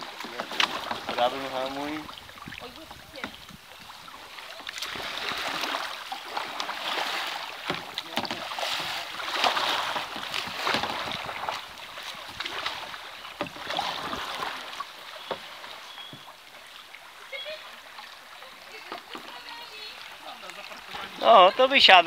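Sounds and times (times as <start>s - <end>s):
paddles splashing in river water: 0.0s - 22.0s.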